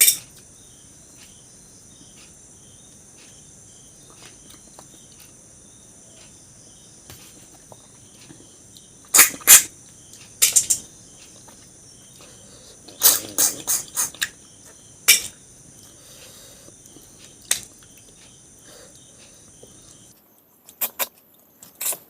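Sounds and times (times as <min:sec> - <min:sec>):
insect chirring: 0:00.0 - 0:22.0.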